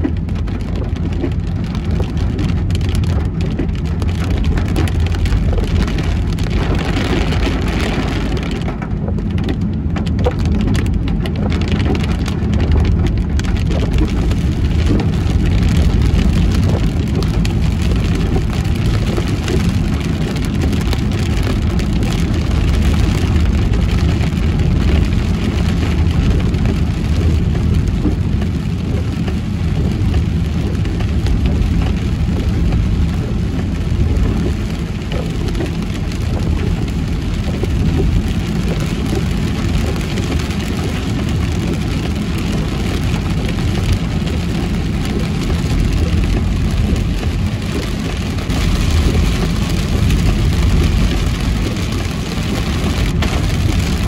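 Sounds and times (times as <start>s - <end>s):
heavy rain on a car: 0.0s - 54.0s
road and engine rumble: 0.0s - 54.0s.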